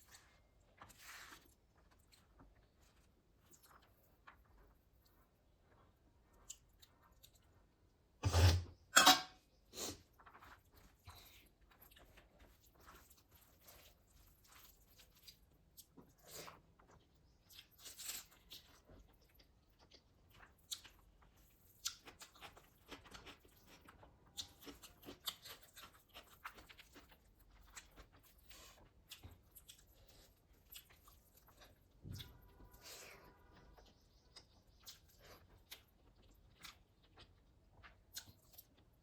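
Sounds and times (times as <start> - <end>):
chewing and crunching: 0.0 - 8.2, 9.4 - 39.0.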